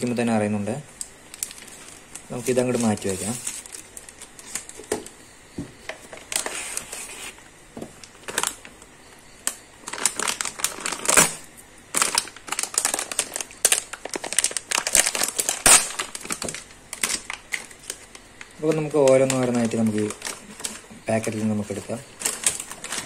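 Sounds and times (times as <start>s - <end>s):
plastic bags crinkling: 0.8s - 5.2s, 5.9s - 8.9s, 9.5s - 23.0s.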